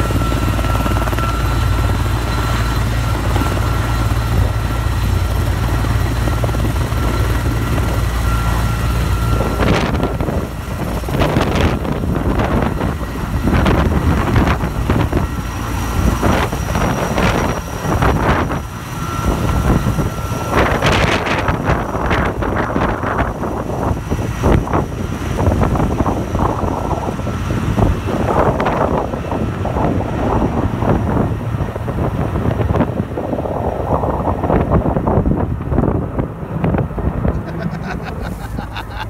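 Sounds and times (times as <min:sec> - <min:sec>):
helicopter turbines and rotor drone: 0:00.0 - 0:39.0
rotor downwash buffeting microphone: 0:00.0 - 0:39.0.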